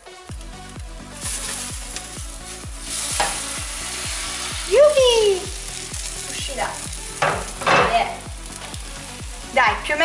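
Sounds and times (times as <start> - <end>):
frittata sizzling in frying pan: 1.2 - 10.0.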